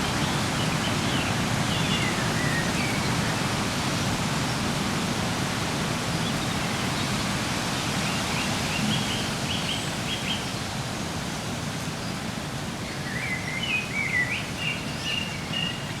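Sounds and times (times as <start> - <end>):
wind through woodland: 0.0 - 16.0.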